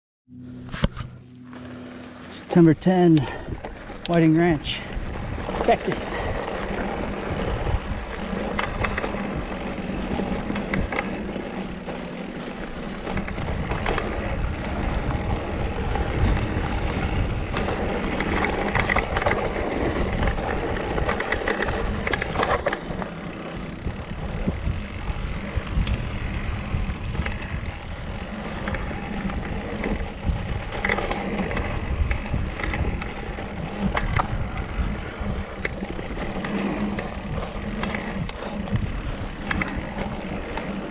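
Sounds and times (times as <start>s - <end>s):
bike rattling over bumps: 0.7s - 40.9s.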